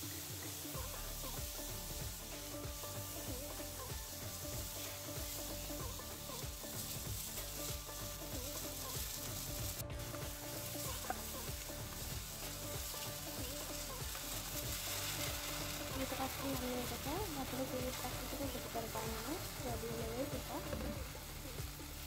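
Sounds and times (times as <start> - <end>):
sauce sizzling in a pan: 0.0 - 22.0.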